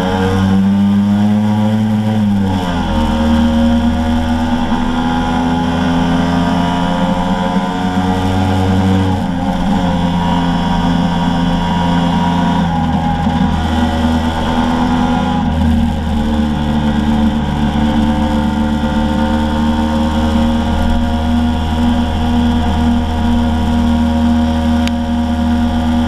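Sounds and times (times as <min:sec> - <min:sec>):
scooter engine running: 0:00.0 - 0:26.0
wind and road noise: 0:00.0 - 0:26.0.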